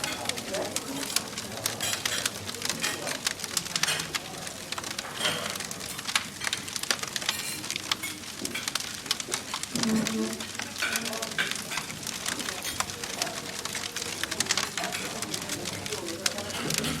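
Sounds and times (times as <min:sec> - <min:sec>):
murmur of people talking: 0:00.0 - 0:17.0
wood fire crackling: 0:00.0 - 0:17.0.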